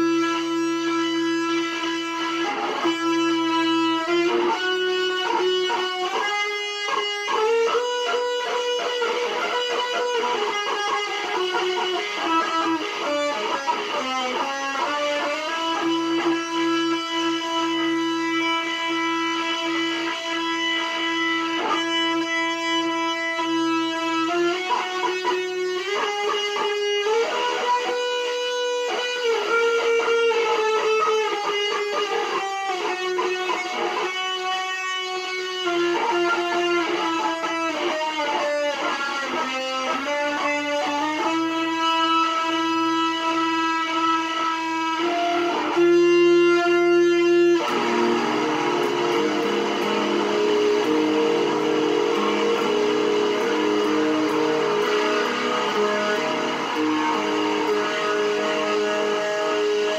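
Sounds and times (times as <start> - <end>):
electric guitar lead melody: 0.0 - 59.9.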